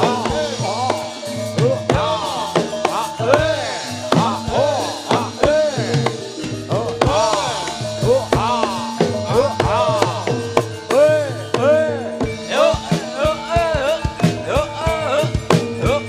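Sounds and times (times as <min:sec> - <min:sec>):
gamelan melody: 0:00.0 - 0:16.0
sharp drum strokes: 0:00.0 - 0:16.0.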